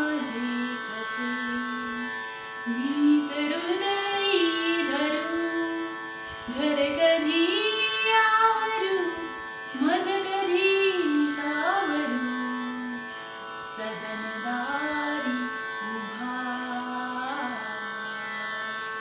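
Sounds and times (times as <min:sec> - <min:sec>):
woman singing wordless melody: 0:00.0 - 0:18.5.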